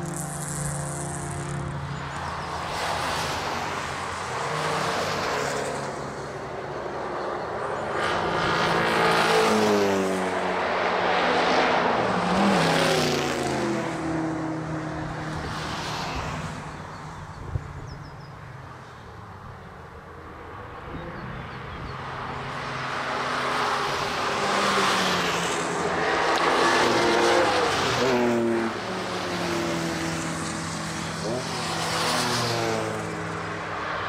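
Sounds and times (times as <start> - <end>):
race cars passing: 0.0 - 34.0.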